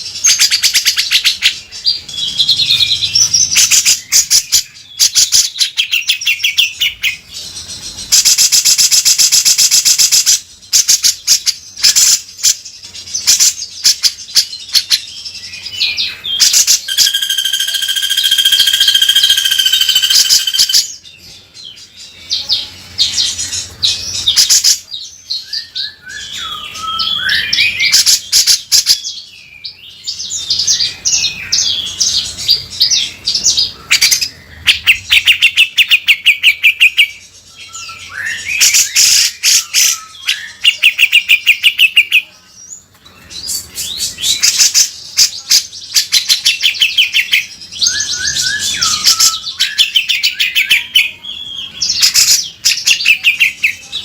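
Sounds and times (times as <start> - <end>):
bird singing harsh rattling chatter: 0.0 - 54.0.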